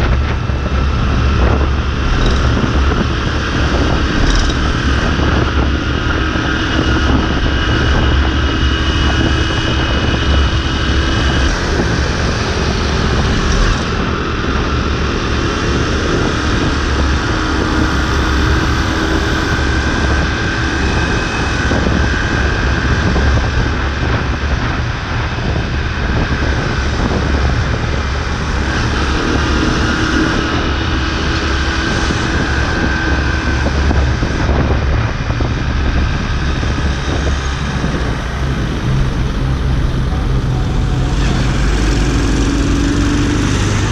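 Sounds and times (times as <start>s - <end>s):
motorbike engine running: 0.0s - 43.9s
wind on microphone: 0.0s - 43.9s.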